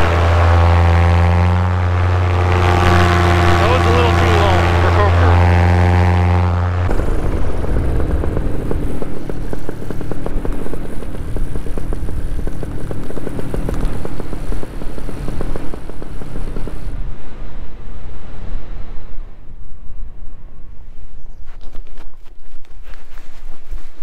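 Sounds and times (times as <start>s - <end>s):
engine and propeller rumble: 0.0s - 24.0s
wind buffeting microphone: 0.0s - 24.0s.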